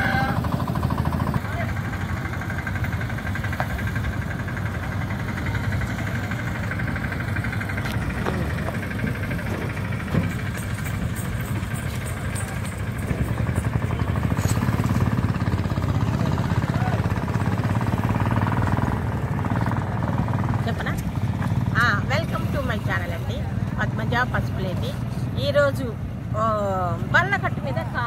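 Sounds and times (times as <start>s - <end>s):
motor engine running: 0.0s - 28.0s.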